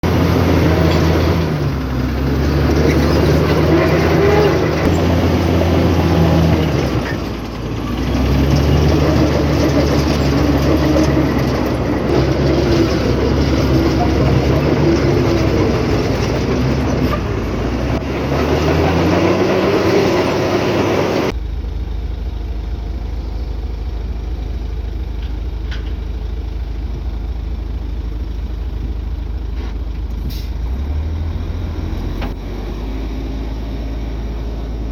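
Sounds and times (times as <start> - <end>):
diesel earthmoving machinery engine: 0.0 - 34.9.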